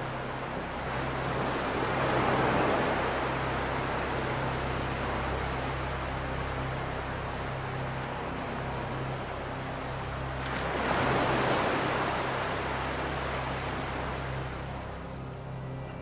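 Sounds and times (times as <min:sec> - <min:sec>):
low constant hum: 0:00.0 - 0:16.0.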